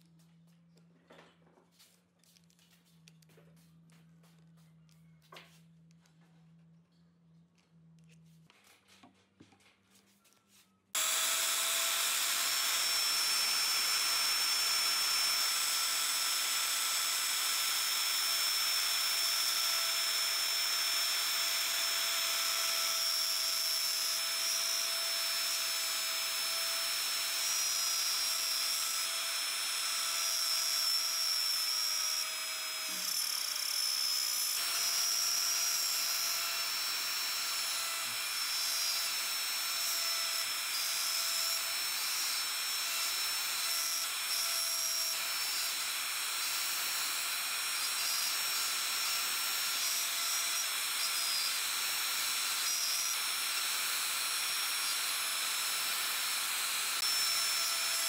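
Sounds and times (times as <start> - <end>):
wood router high whine: 11.0 - 58.0.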